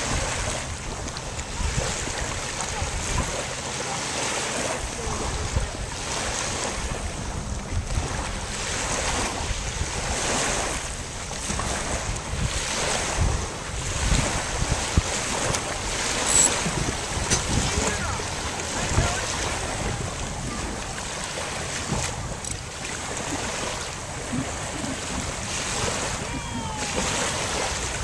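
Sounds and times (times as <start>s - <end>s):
water washing along boat hull: 0.0s - 28.0s
wind rumbling on microphone: 0.0s - 28.0s.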